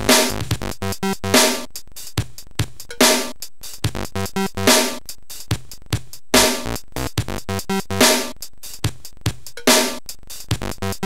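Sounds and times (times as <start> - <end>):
drum-machine beat: 0.0 - 11.0.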